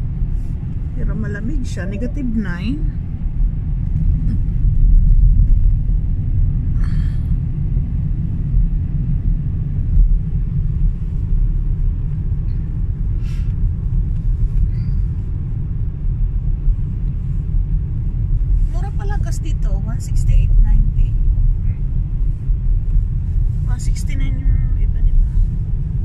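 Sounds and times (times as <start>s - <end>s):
car driving on snowy road: 0.0s - 26.0s.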